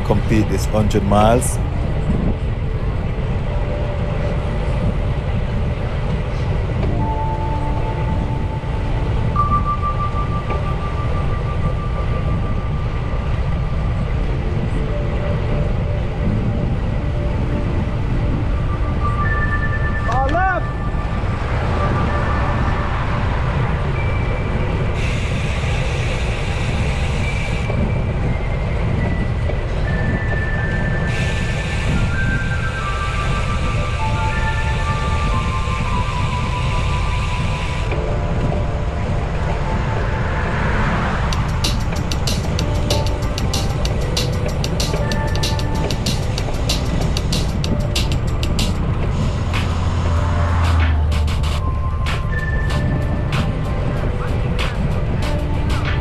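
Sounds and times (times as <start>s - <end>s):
faint steady tones: 0.0s - 56.0s.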